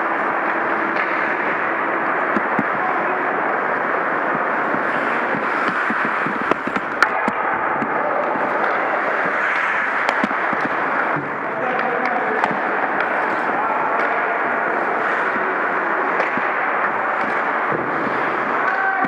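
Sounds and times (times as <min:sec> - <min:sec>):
hockey sticks and puck clacking: 0:00.1 - 0:19.0
skates scraping ice: 0:00.2 - 0:19.0.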